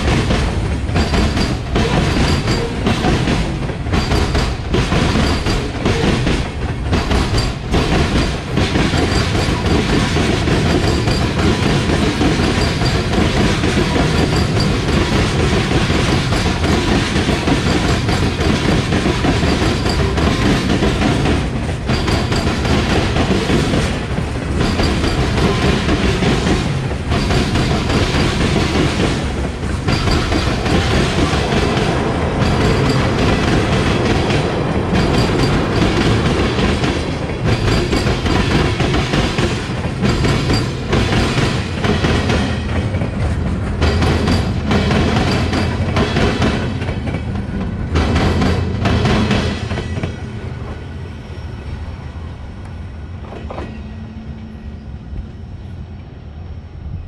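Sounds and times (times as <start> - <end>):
freight train wheels clacking: 0.0 - 51.5.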